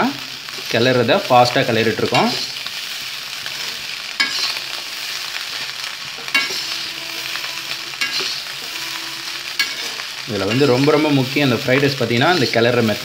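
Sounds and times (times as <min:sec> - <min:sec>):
rice sizzling in a wok: 0:00.0 - 0:13.0
spatula stirring: 0:02.0 - 0:12.6.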